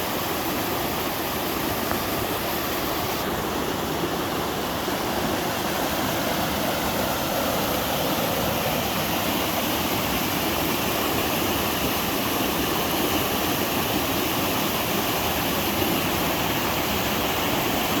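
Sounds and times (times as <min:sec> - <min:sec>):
waterfall pouring into pool: 0:00.0 - 0:18.0.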